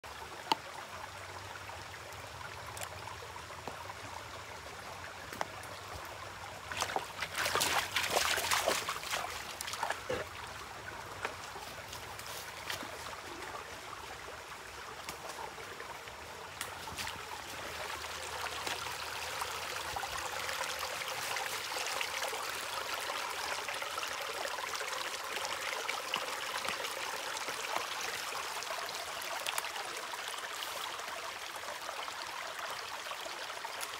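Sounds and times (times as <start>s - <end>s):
creek trickling over stones: 0.0s - 33.9s.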